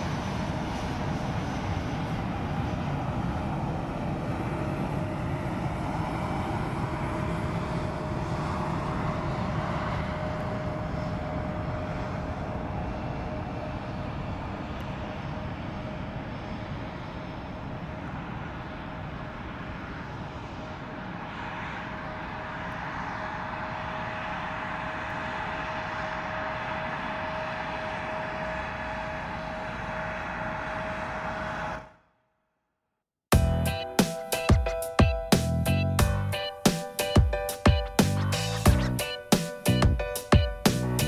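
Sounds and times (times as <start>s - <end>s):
jet engines at takeoff thrust: 0.0s - 32.2s, 33.3s - 41.0s.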